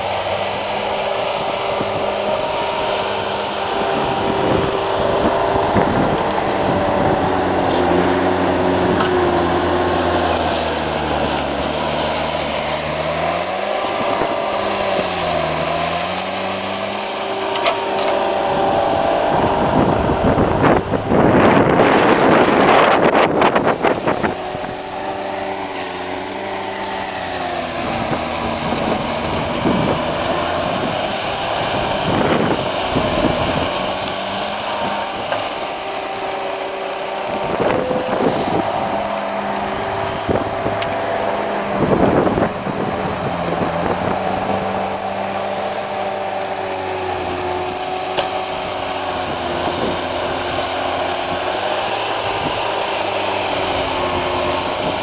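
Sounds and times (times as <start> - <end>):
diesel engine running: 0.0 - 55.0
rushes of noise: 0.0 - 55.0.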